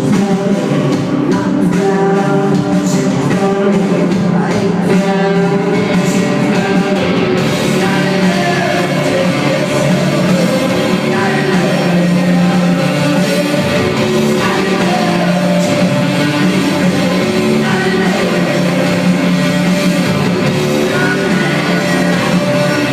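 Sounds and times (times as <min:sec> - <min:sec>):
rock band playing live: 0:00.0 - 0:22.9.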